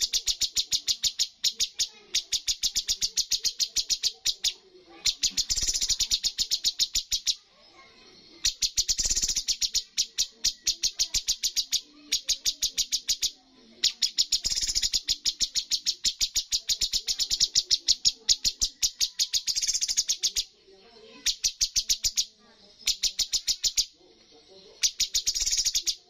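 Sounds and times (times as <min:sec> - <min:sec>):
songbird singing rapid notes: 0:00.0 - 0:26.0.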